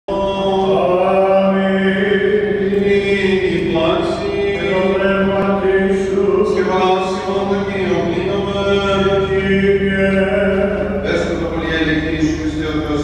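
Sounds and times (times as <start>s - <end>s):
man chanting solo: 0.1s - 13.0s.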